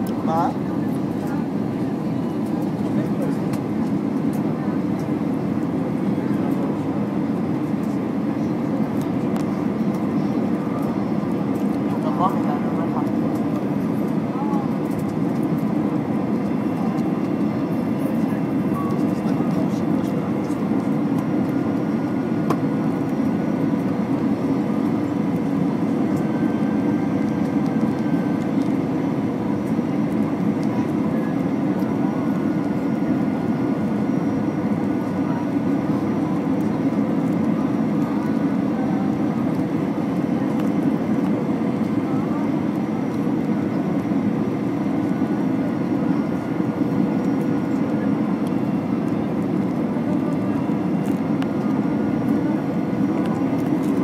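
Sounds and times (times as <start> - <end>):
airflow and engine drone: 0.0 - 54.0
faint steady whining tones: 0.0 - 54.0.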